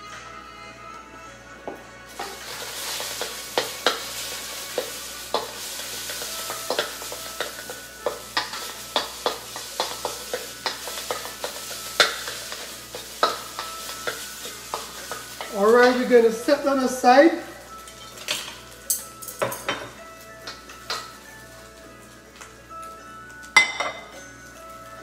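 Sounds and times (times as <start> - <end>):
egg sizzling in a wok: 2.1 - 25.0.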